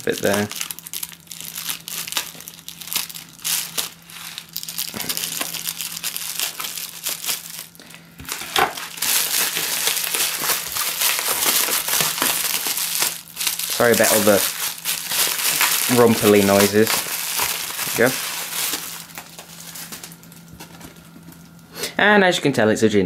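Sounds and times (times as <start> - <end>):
scissors cutting bubble wrap: 0.0 - 21.0
bubble wrap crinkling and rustling: 0.0 - 21.6.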